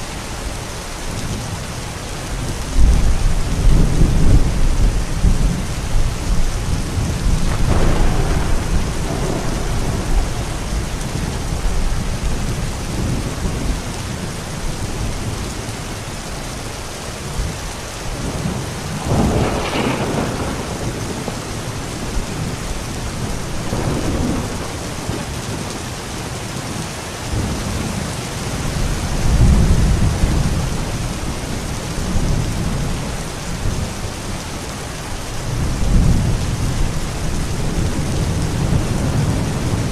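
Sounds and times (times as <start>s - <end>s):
steady rain: 0.0s - 39.9s
thunder rumbling: 2.3s - 16.3s, 18.2s - 39.9s.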